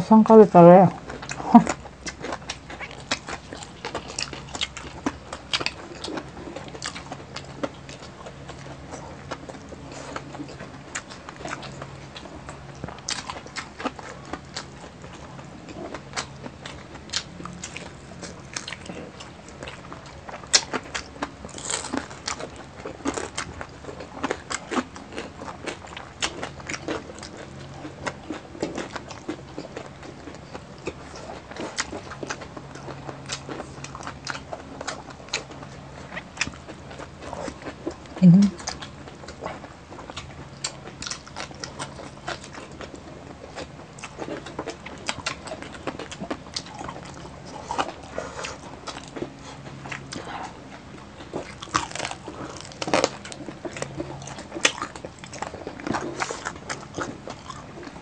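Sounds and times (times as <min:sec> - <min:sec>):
people chewing crunchy food: 0:00.0 - 0:58.0.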